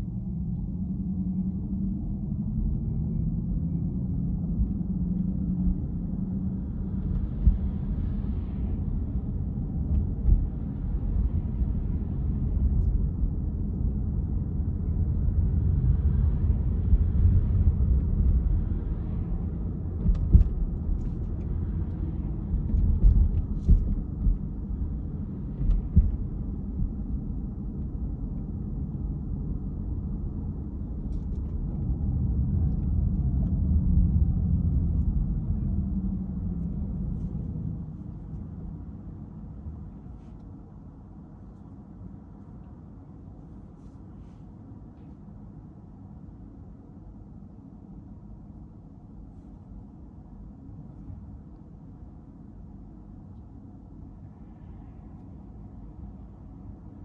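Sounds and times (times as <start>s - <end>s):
car driving rumble: 0.0s - 47.1s.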